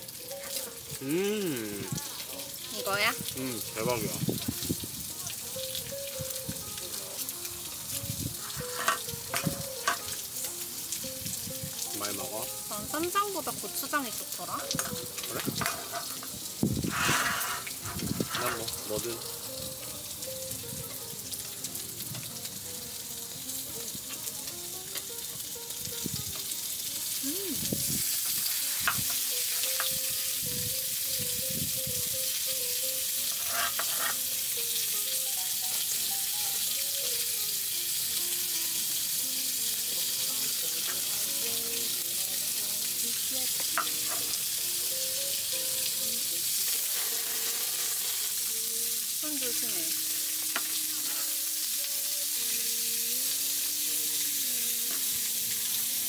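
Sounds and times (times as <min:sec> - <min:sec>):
food sizzling on grill pan: 0:00.0 - 0:56.0.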